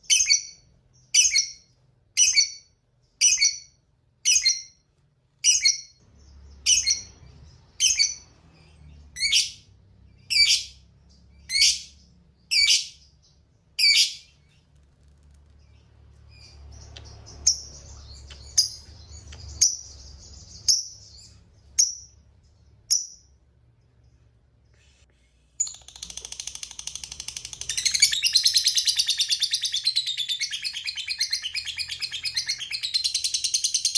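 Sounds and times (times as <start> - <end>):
lovebird chirping and trilling: 0.0 - 4.8, 5.4 - 14.6, 15.6 - 23.3, 25.6 - 33.9.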